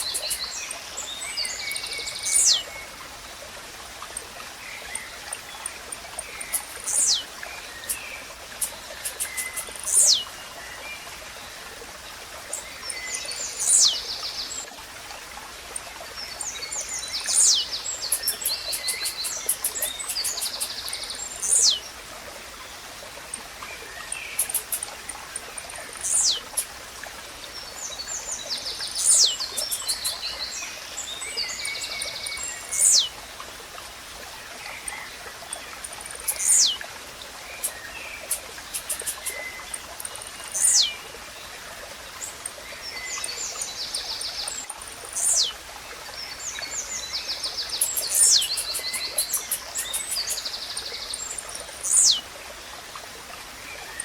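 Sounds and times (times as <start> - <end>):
small birds twittering: 0.0 - 2.9, 4.6 - 10.8, 12.4 - 14.6, 16.2 - 22.0, 23.3 - 26.8, 27.4 - 33.4, 34.5 - 52.3
running stream: 0.0 - 54.0.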